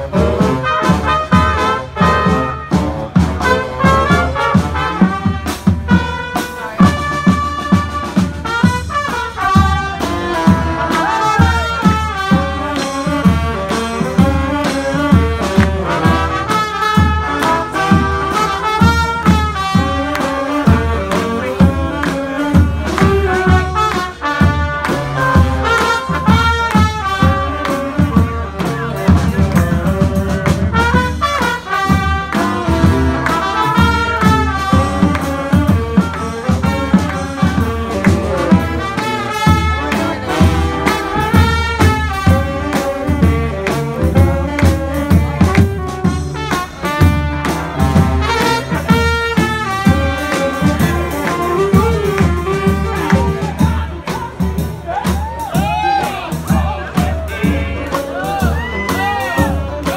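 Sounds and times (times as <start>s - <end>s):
brass band playing: 0.0s - 59.9s
steady drum beat: 0.0s - 59.9s.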